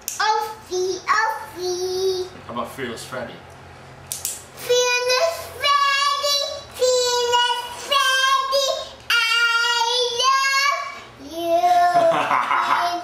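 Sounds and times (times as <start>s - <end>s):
child singing in a high voice: 0.2s - 2.3s, 4.6s - 13.0s.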